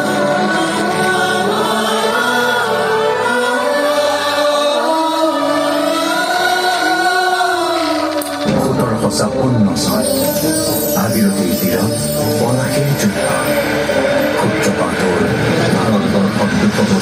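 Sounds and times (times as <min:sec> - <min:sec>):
choir singing long notes: 0:00.0 - 0:17.0.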